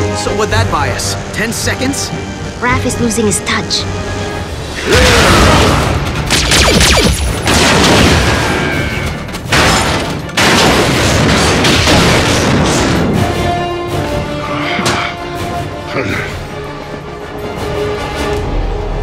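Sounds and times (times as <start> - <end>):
dramatic music score: 0.0 - 19.0.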